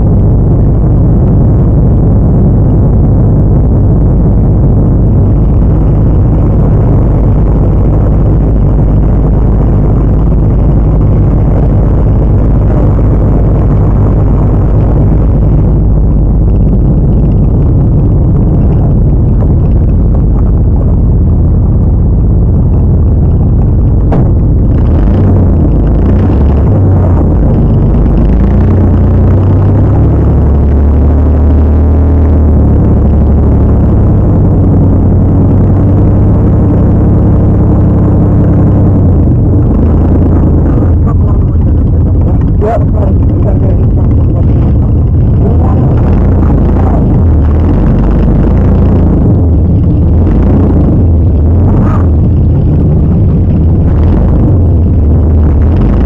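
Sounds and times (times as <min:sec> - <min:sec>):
truck engine running hard: 0:00.0 - 0:56.0.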